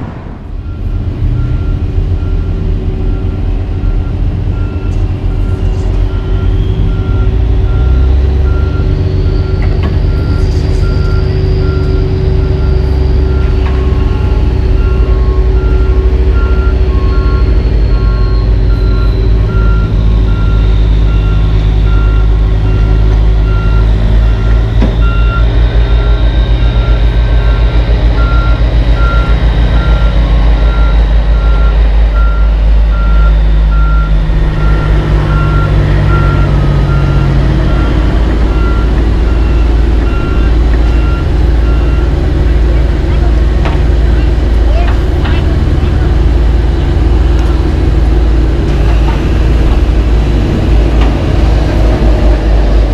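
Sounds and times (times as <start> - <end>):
backup alarm beeping: 0.0 - 52.4
diesel construction equipment running: 0.0 - 52.9.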